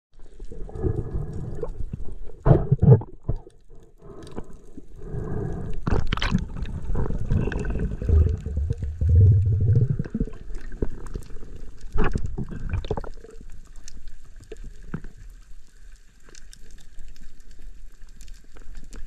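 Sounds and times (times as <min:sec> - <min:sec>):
underwater gurgling and bubbling: 0:00.2 - 0:15.9.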